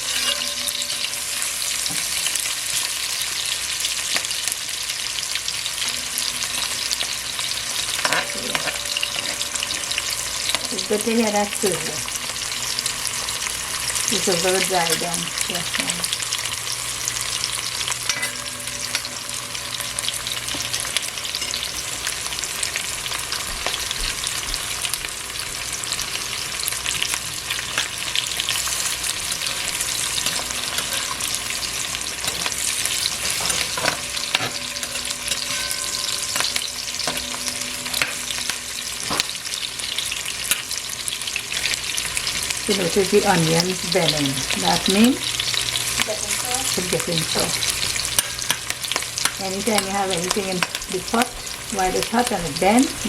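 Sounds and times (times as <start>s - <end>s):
onions sizzling in hot oil: 0.0s - 53.0s.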